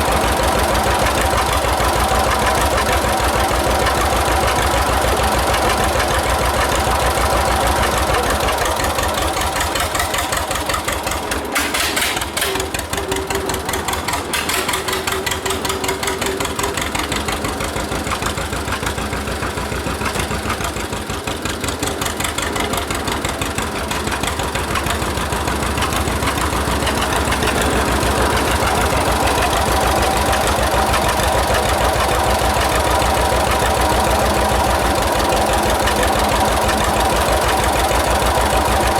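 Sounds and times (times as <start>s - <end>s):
two-cylinder engine running: 0.0s - 38.9s.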